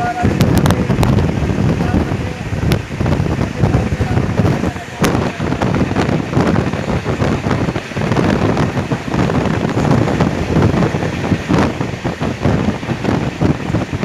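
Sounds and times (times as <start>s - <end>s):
train coaches rattling on track: 0.0s - 14.0s
wind buffeting microphone: 0.0s - 14.0s.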